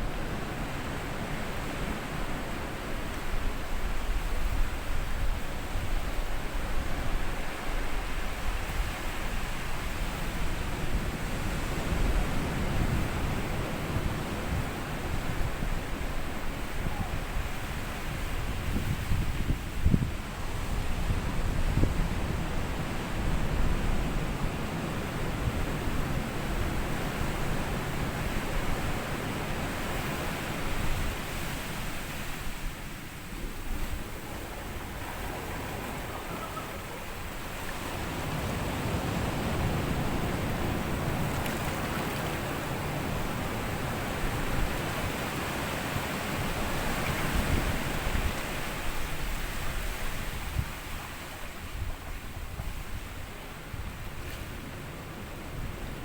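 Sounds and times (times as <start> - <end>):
sea waves washing onto beach: 0.0 - 56.0
wind on microphone: 0.0 - 56.0.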